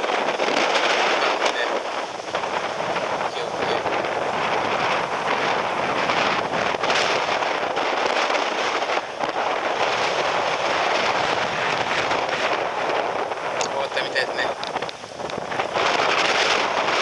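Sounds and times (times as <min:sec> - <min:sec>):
gale and driving rain: 0:00.0 - 0:17.0
wind buffeting microphone: 0:00.0 - 0:17.0.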